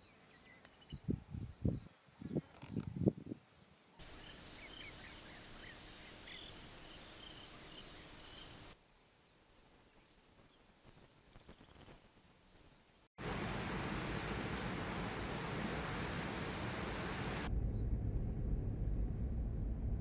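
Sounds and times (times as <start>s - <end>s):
steady outdoor hiss: 0.0s - 17.5s.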